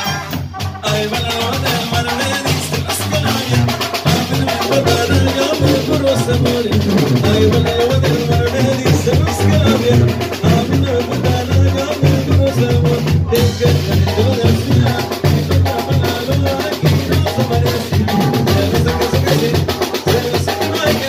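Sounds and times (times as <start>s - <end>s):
banda music with horns: 0.0s - 21.0s
large drum and cymbal beat: 0.0s - 21.0s.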